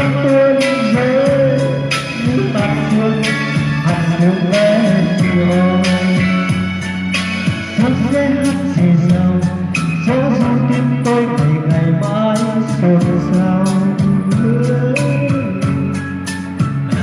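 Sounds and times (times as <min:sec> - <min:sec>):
pop ballad with percussion beat: 0:00.0 - 0:17.0.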